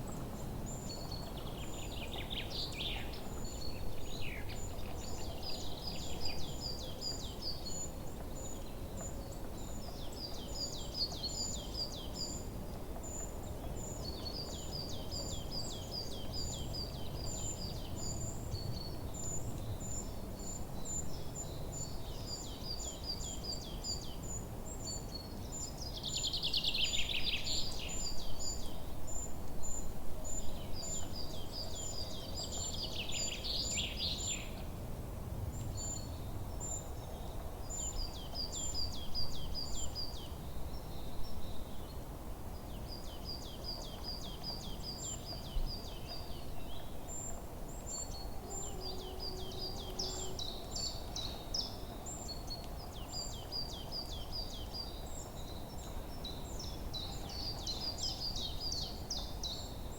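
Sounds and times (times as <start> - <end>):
songbirds singing: 0.0 - 34.7, 35.5 - 59.9.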